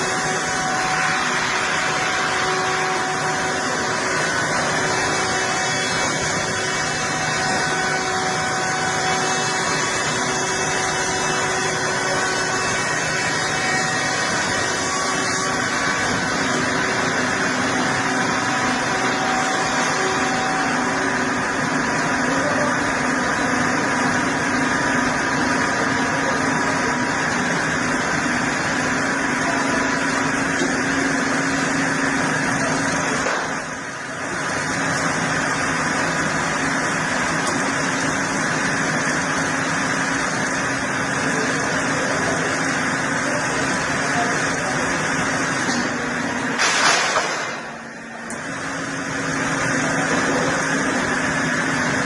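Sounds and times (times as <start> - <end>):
engine-driven machine running: 0.0 - 52.0.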